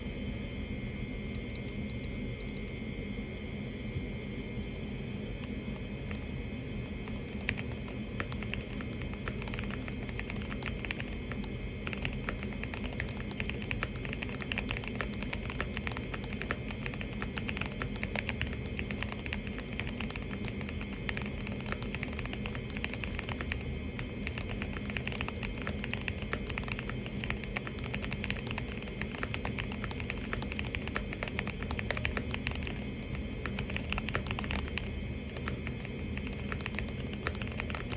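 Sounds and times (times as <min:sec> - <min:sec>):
low hum: 0:00.0 - 0:37.9
mechanical keyboard keystrokes: 0:07.0 - 0:37.9.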